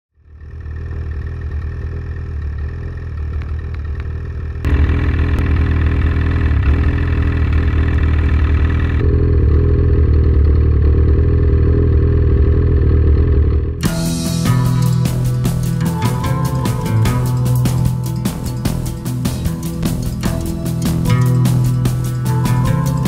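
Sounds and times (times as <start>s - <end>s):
snowmobile engine running: 0.2s - 23.0s.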